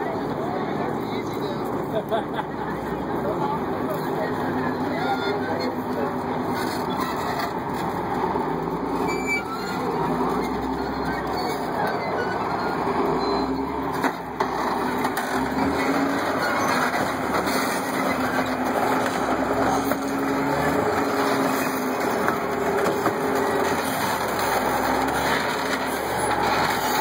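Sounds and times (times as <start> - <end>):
tank engine droning: 0.0 - 27.0
tracks crushing car: 0.0 - 27.0.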